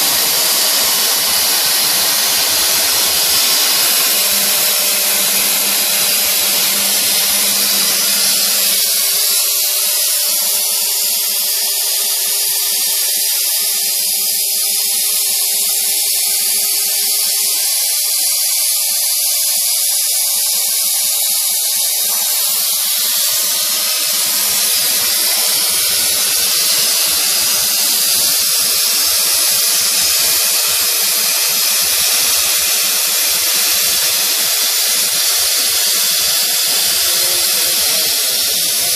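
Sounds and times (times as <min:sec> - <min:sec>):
small motor whining: 0:00.0 - 0:38.9.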